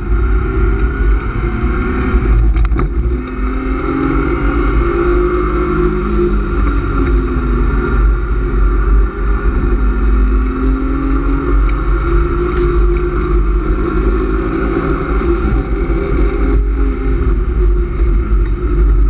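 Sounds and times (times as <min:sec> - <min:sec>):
car engine revving: 0:00.0 - 0:19.0
road and wind rumble: 0:00.0 - 0:19.0.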